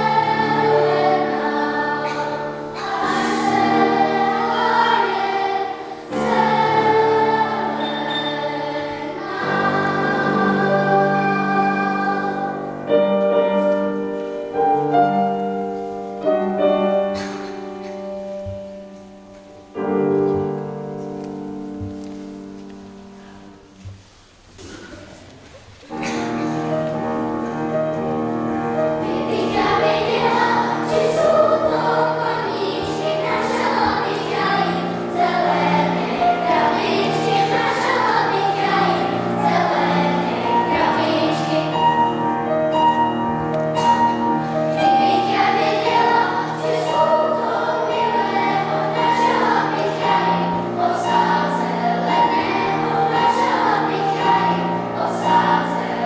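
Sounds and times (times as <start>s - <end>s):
piano accompaniment: 0.0s - 25.2s, 25.8s - 56.0s
children's choir singing: 0.0s - 56.0s.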